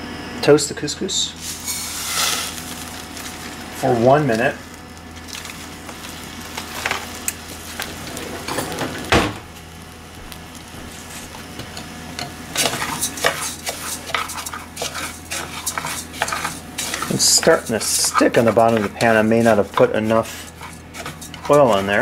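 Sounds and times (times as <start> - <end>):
couscous sizzling in oil: 1.2 - 22.0
wooden spoon scraping a pan: 1.4 - 4.6, 5.2 - 9.1, 10.6 - 22.0.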